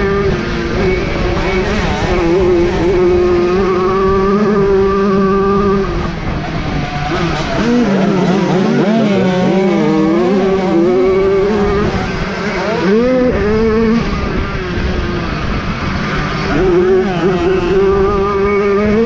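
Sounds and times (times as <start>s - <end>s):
two-stroke motorcycle engines revving: 0.0s - 19.0s.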